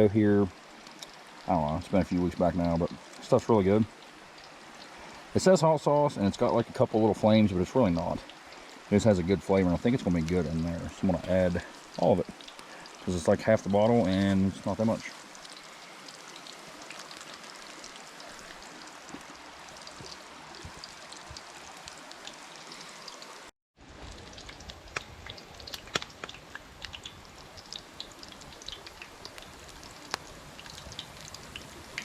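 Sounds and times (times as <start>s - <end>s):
chicken frying in oil: 0.0s - 32.0s
oil popping and crackling: 0.7s - 32.0s.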